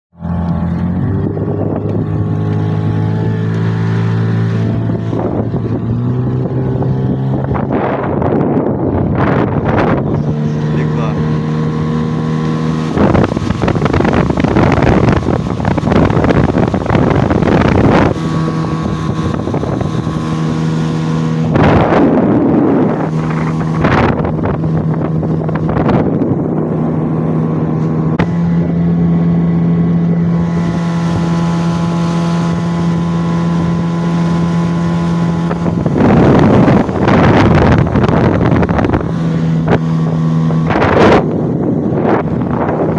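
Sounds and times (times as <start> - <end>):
outboard motor running: 0.1 - 42.9
wind gusts buffeting microphone: 0.5 - 42.9.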